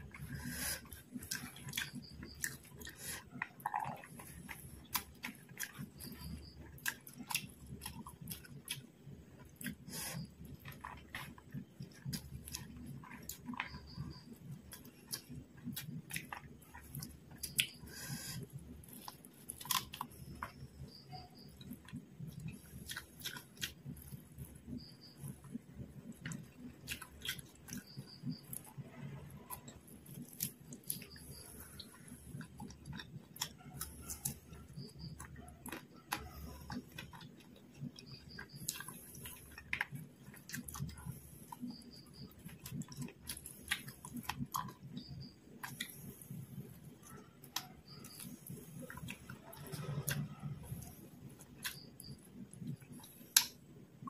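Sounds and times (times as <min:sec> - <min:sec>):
chewing and biting food: 0:00.0 - 0:53.7.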